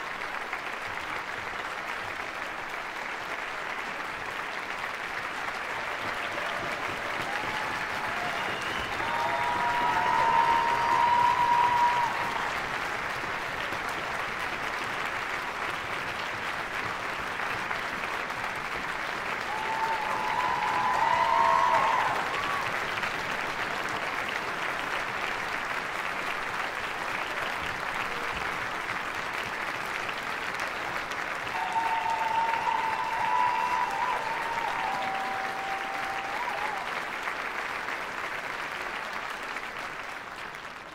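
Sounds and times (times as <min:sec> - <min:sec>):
audience applauding: 0:00.0 - 0:40.9.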